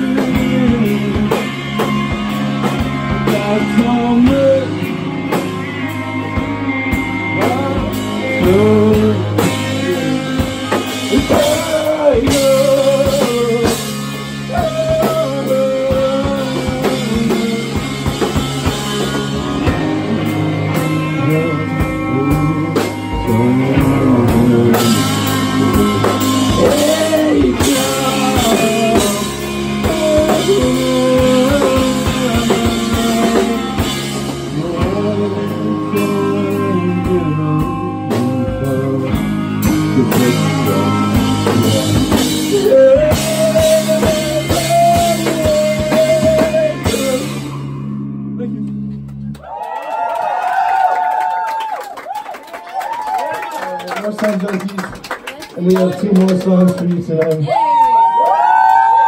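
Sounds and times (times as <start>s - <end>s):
person singing: 0.0s - 47.8s
drum kit: 0.0s - 56.9s
electric guitars: 0.0s - 59.0s.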